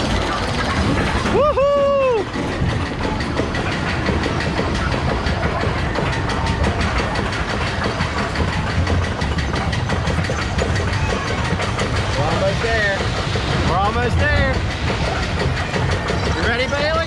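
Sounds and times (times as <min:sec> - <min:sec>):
roller coaster chain lift clatter: 0:00.0 - 0:17.0.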